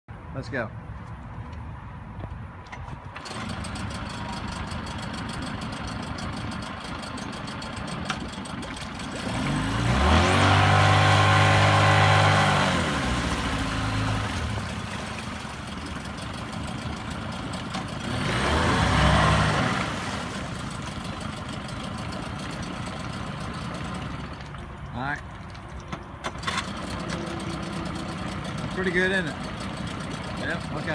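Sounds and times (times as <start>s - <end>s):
outboard motor idling and revving: 3.2s - 30.9s.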